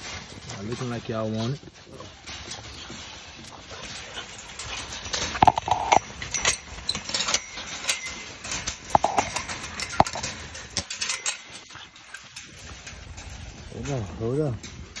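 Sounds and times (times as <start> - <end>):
puppies scuffling in wood shavings: 0.0 - 14.4.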